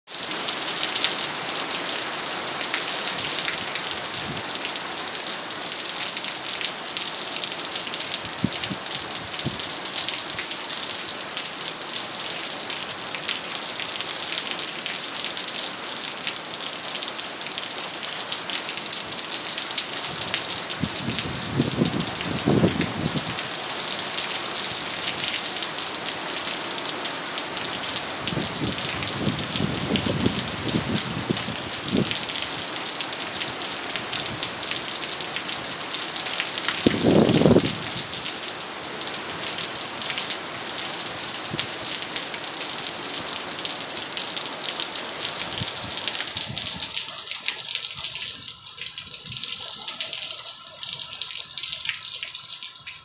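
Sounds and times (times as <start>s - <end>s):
heavy rain on pavement and roof: 0.0s - 53.0s
water streaming off roof: 0.1s - 53.0s.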